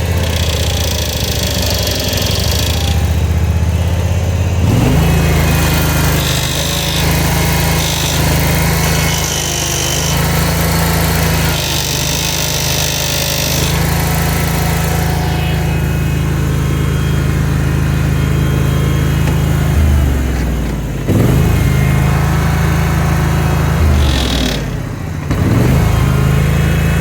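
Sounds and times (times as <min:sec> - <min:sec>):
mower engine running: 0:00.0 - 0:27.0
high whine: 0:00.1 - 0:27.0.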